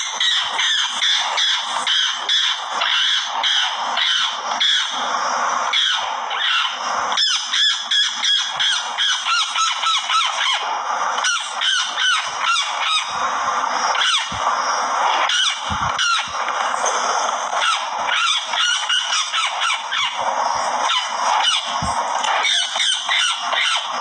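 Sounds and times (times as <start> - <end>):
harsh bird calls: 0.0 - 24.0.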